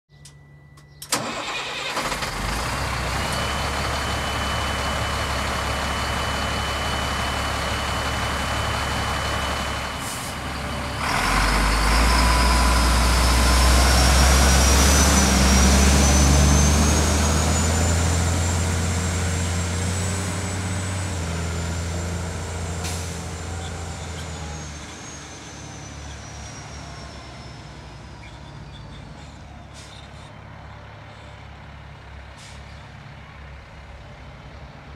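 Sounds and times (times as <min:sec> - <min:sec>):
diesel truck engine starting and idling: 0:00.2 - 0:34.9
truck pulling away and passing: 0:00.4 - 0:34.9.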